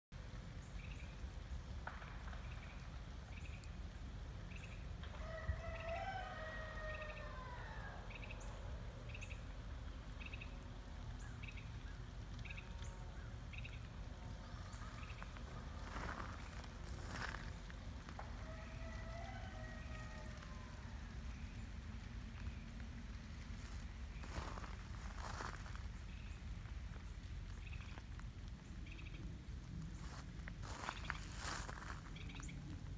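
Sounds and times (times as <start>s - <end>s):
low outdoor rumble: 0.2s - 32.9s.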